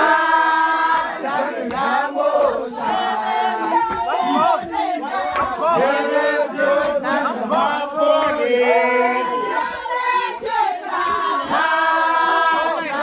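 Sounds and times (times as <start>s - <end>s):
group singing and chanting: 0.0s - 13.0s.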